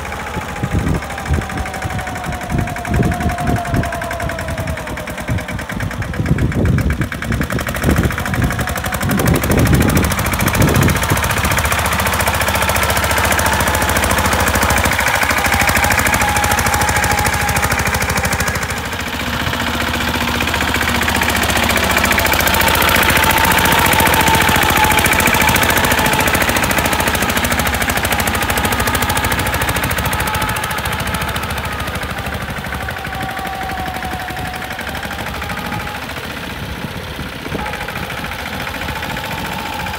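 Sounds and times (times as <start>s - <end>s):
tractor diesel engine knocking: 0.0s - 39.9s.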